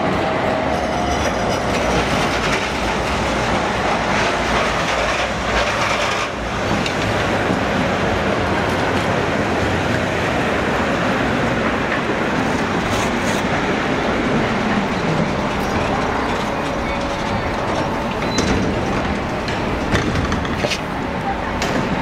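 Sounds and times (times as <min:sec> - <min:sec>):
tram wheels rumbling on rails: 0:00.0 - 0:22.0
tram clicks: 0:00.7 - 0:22.0.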